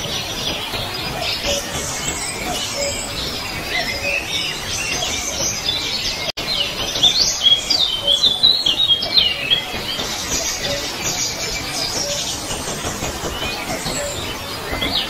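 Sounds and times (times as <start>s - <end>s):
songbirds chirping: 0.0s - 15.0s
whistled bird notes: 0.0s - 15.0s.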